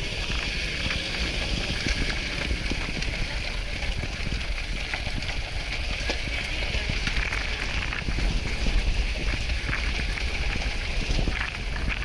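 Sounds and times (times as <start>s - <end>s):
tyre and wind noise hiss: 0.0s - 12.0s
vehicle rumble on gravel: 0.0s - 12.0s.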